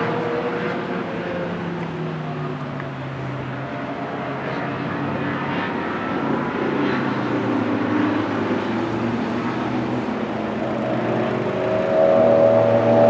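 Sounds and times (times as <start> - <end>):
sports car engines at speed: 0.0 - 13.0.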